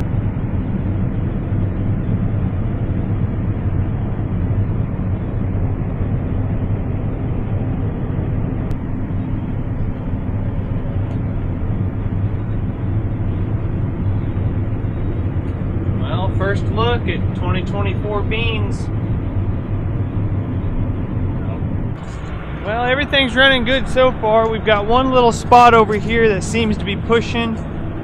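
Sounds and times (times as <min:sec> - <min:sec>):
combine harvester engine drone: 0:00.0 - 0:28.0.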